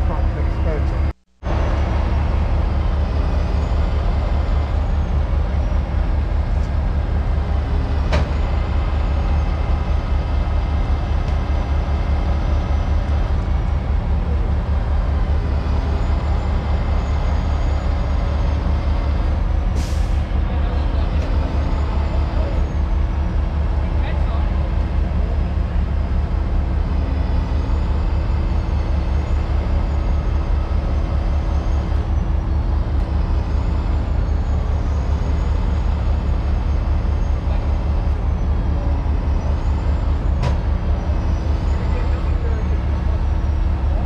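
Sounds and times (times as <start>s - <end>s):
diesel truck engine rumbling: 0.0s - 44.0s.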